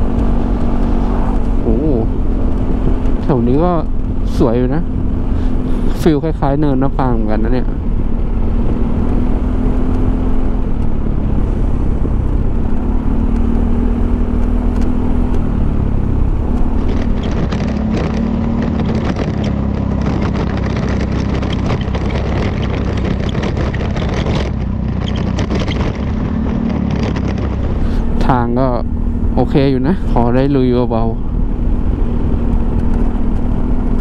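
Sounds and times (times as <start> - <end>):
scooter engine running: 0.0 - 34.0
wind and road noise: 0.0 - 34.0.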